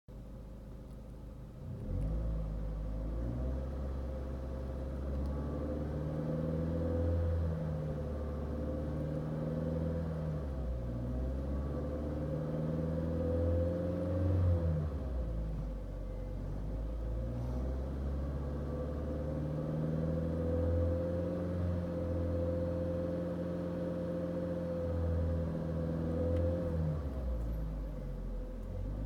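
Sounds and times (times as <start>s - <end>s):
car engine revving: 1.6s - 29.0s.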